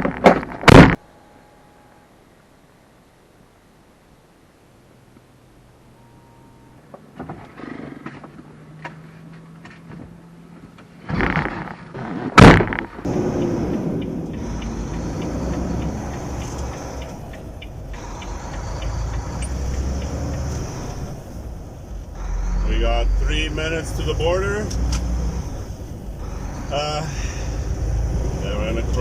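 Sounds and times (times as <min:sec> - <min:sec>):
constant hiss: 0:00.0 - 0:08.4, 0:12.6 - 0:29.0
truck engine rumbling: 0:04.8 - 0:29.0.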